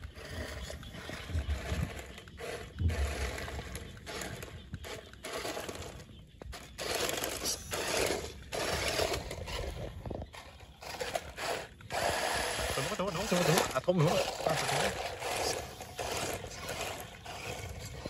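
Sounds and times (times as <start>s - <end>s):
rc truck motor whirring: 0.0s - 18.0s
tyres crunching over dirt: 0.0s - 18.0s.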